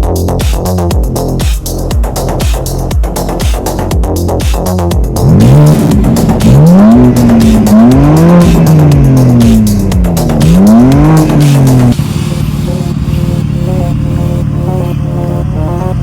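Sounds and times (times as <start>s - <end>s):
car engine revving: 0.0s - 16.0s
electronic music with steady beat: 0.0s - 16.0s.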